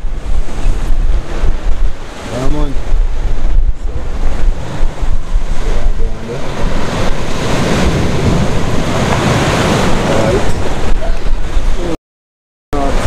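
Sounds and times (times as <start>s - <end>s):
surf washing over rocks: 0.0s - 12.0s, 12.8s - 13.0s
wind buffeting microphone: 0.0s - 12.0s.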